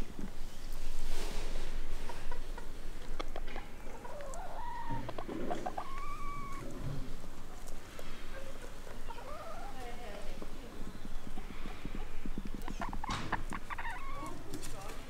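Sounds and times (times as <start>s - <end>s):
chicken calling: 2.0s - 14.9s.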